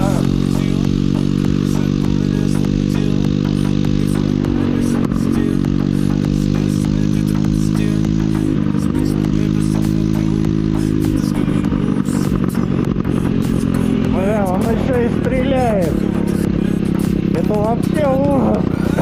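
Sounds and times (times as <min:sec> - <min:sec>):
scooter engine at high revs: 0:00.0 - 0:19.0.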